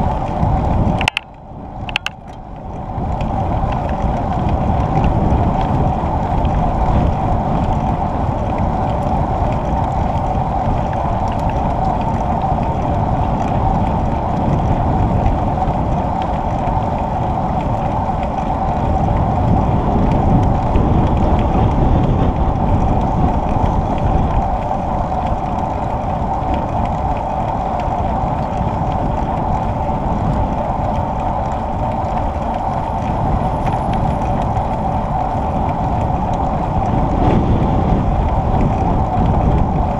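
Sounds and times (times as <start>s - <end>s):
mid-pitched hum: 0.0s - 39.9s
wind noise on microphone: 0.0s - 39.9s.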